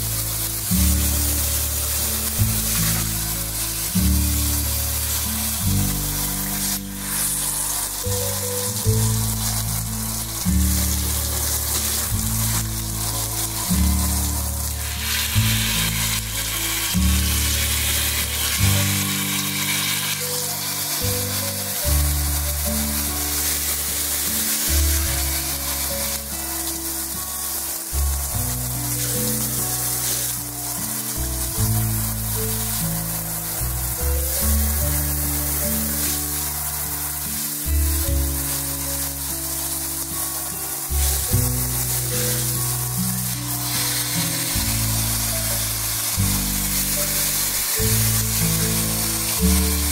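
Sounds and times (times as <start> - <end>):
background music: 0.0 - 49.9
shower spraying into bathtub: 0.0 - 49.9.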